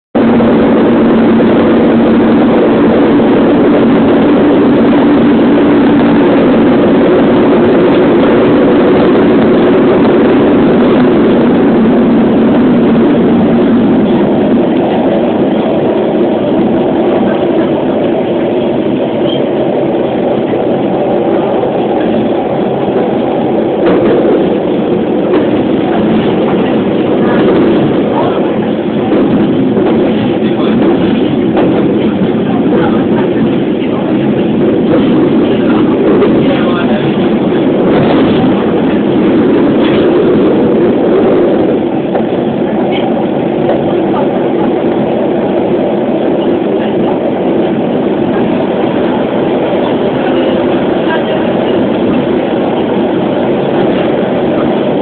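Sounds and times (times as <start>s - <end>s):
train running noise: 0.0s - 55.0s.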